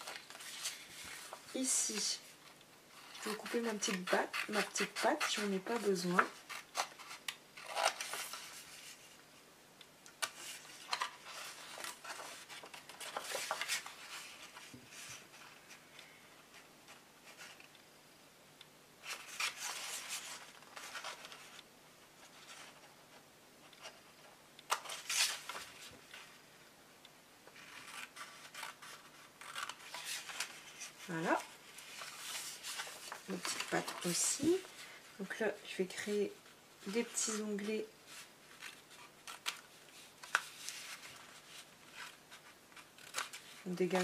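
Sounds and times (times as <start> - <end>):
card rustling: 0.0 - 9.2, 10.1 - 17.8, 19.0 - 23.0, 24.7 - 26.4, 27.5 - 35.4, 36.8 - 44.0.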